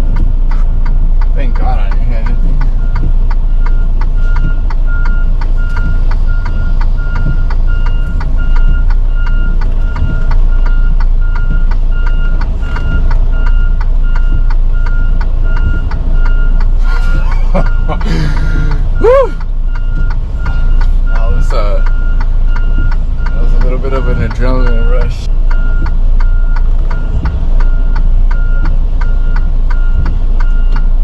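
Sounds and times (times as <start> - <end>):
diesel engine rumble: 0.0 - 31.0
regular ticking: 0.0 - 31.0
truck reversing alarm beeping: 1.9 - 31.0.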